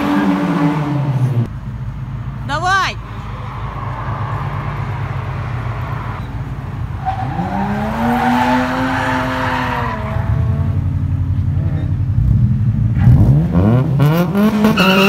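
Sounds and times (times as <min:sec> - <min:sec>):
car engines rumbling in tunnel: 0:00.0 - 0:15.0.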